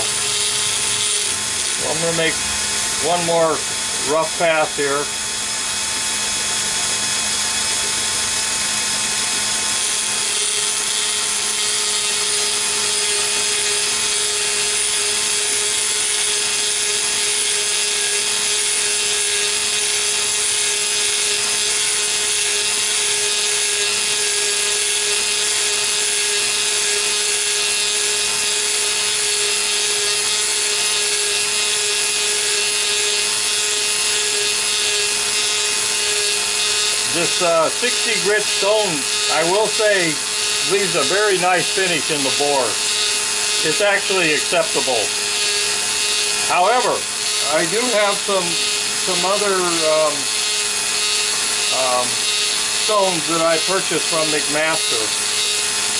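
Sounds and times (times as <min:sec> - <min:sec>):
grinder high whine: 0:00.0 - 0:55.9
lower-pitched grinding tone: 0:00.0 - 0:55.9.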